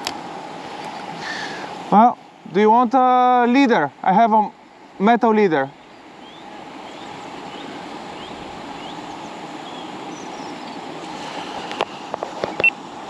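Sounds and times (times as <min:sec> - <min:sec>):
flowing river water: 0:00.0 - 0:13.0
wind: 0:00.0 - 0:13.0.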